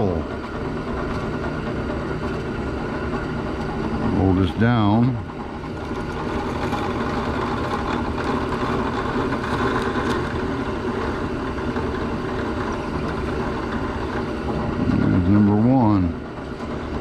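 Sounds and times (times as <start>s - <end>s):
drill press boring wood: 0.0s - 17.0s.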